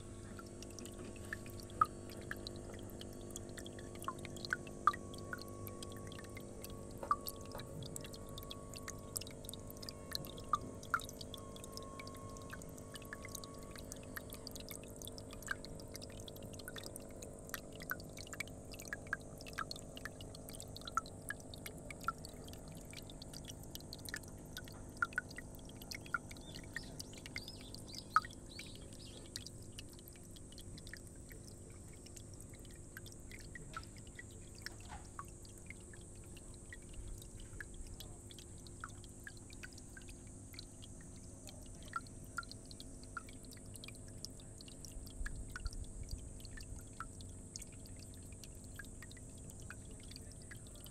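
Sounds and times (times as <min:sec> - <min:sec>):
faint steady hum: 0:00.0 - 0:50.9
water dripping into pond: 0:00.0 - 0:50.9.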